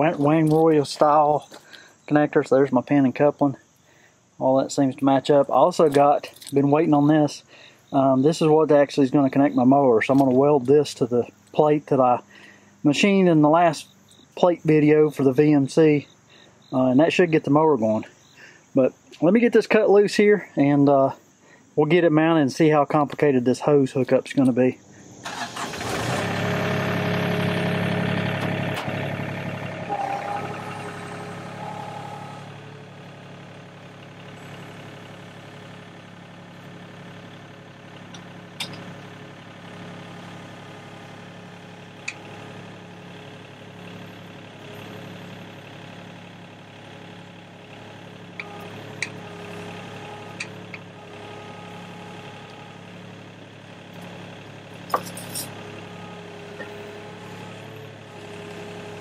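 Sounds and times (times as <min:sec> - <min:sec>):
excavator diesel engine running: 0:00.0 - 0:03.6, 0:04.4 - 0:16.0, 0:24.8 - 0:59.0.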